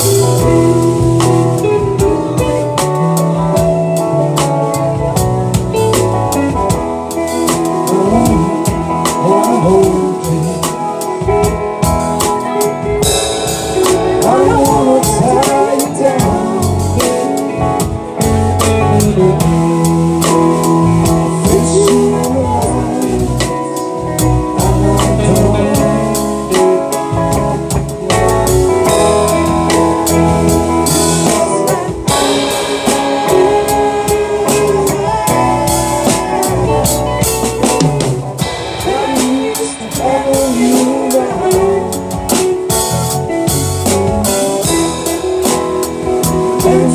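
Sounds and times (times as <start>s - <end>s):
drum kit beat: 0.0s - 46.9s
guitar: 0.0s - 46.9s.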